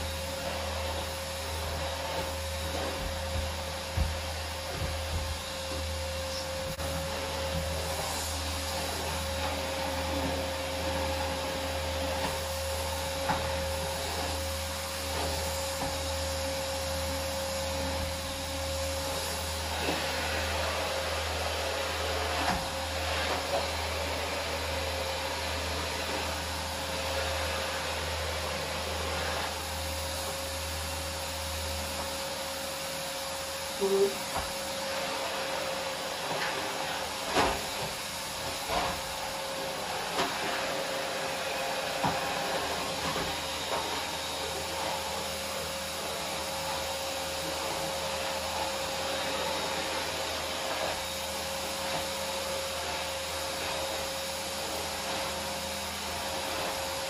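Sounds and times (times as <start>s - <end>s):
vacuum cleaner whining: 0.0s - 57.0s.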